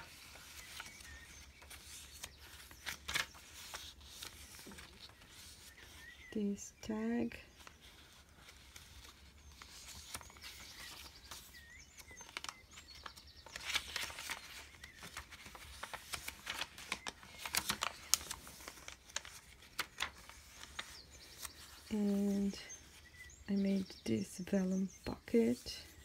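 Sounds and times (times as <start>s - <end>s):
paper pages rustling: 0.0s - 6.3s, 7.5s - 23.9s.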